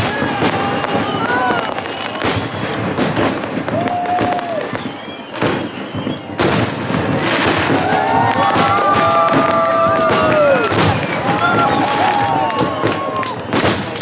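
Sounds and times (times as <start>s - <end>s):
fireworks bursting with sharp bangs: 0.0s - 14.0s
fireworks whistling: 0.0s - 14.0s.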